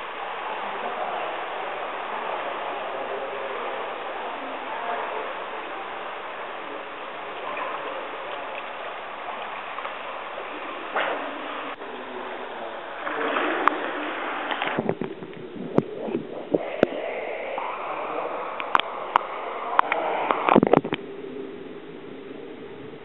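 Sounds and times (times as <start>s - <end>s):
muffled underwater hiss: 0.0s - 23.0s
pool water splashing: 0.0s - 23.0s.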